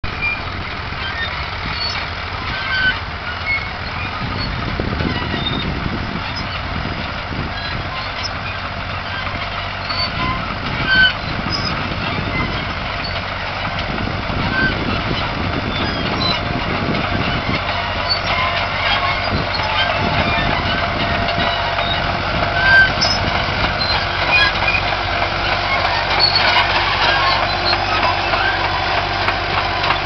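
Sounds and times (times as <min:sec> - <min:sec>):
tractor engine running under load: 0:00.0 - 0:30.0
short high squeaks: 0:00.1 - 0:13.7, 0:14.4 - 0:28.9.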